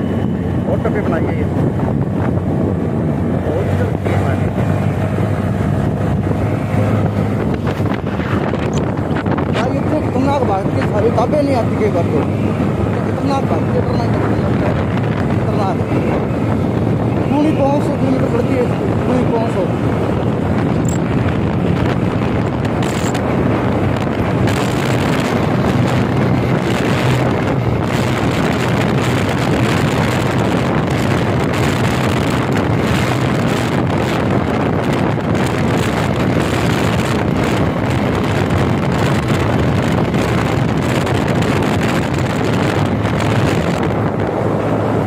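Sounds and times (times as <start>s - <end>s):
motorcycle engine humming: 0.0s - 45.0s
wind buffeting microphone: 0.0s - 45.0s.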